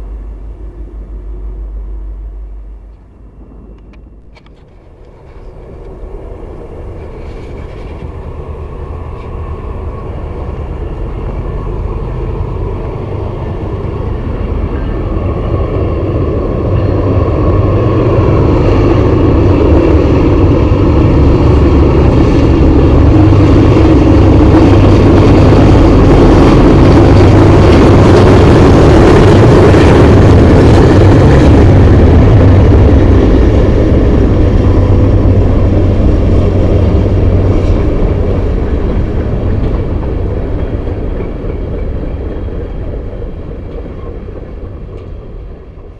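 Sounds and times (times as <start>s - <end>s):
diesel locomotive engine rumble: 0.0s - 45.9s
freight cars rolling by: 0.0s - 45.9s.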